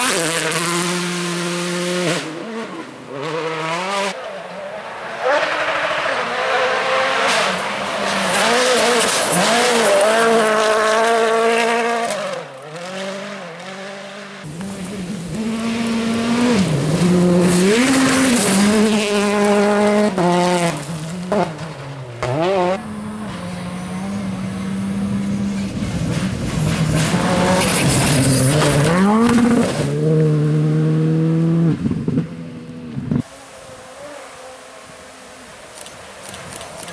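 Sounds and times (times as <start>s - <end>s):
rally car engines revving past: 0.0s - 36.9s.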